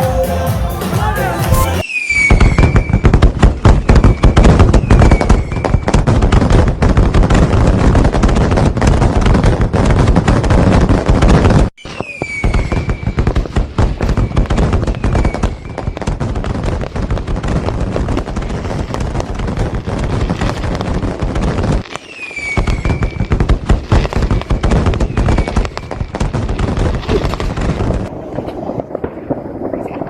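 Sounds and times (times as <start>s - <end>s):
fireworks bangs and crackles: 1.2s - 30.0s
fireworks falling whistles: 1.4s - 6.7s, 9.9s - 30.0s.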